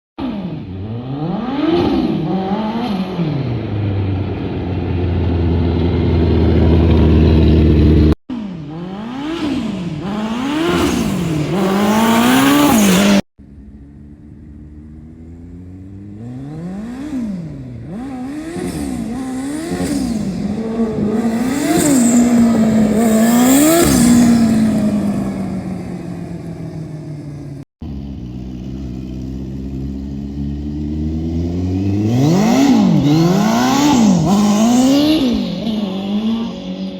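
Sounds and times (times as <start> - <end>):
engine revving: 0.2 - 13.3, 14.3 - 36.9.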